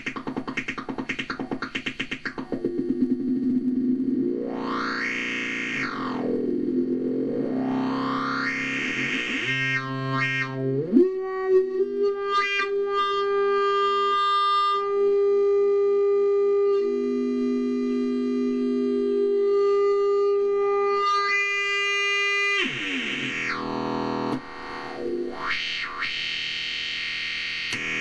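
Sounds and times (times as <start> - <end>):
buzzy electronic synthesizer tones: 0.0 - 28.0.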